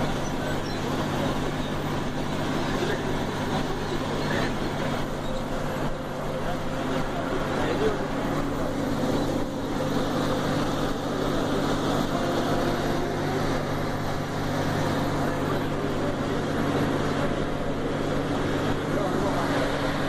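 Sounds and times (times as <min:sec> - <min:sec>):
bus engine hum: 0:00.0 - 0:20.0
road noise: 0:00.0 - 0:20.0.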